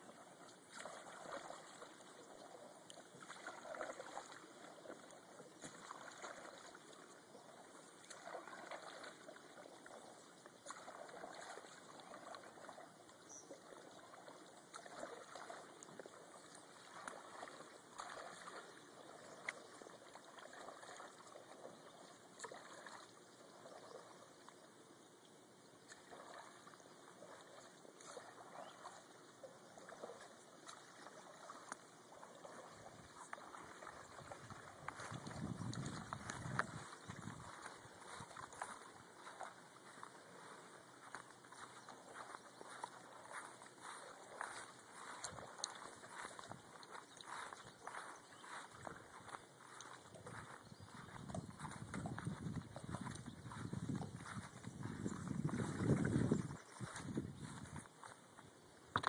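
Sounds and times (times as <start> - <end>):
paddle splashing and dripping: 0.0 - 59.0.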